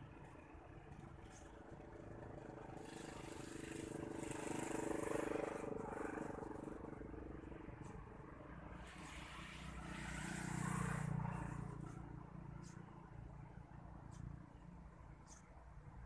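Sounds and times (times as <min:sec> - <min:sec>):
motorbike engine passing by: 0:00.0 - 0:14.2.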